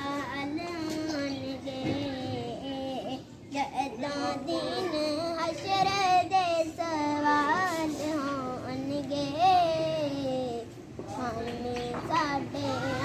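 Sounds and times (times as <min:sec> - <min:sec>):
child singing devotional song: 0:00.0 - 0:13.0.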